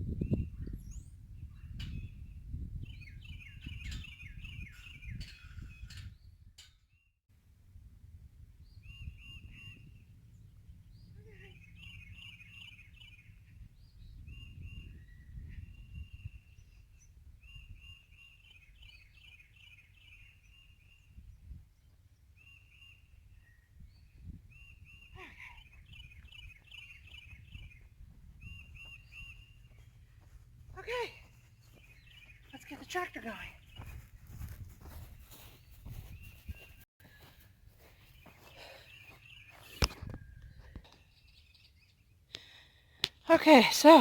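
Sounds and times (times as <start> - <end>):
songbirds chirping and trilling: 0.1 - 7.1, 8.6 - 44.0.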